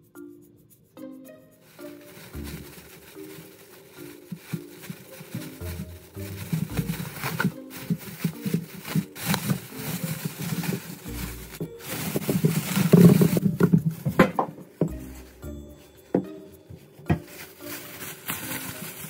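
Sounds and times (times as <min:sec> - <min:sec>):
soft background music: 0:00.0 - 0:19.0
objects being handled: 0:01.6 - 0:19.0.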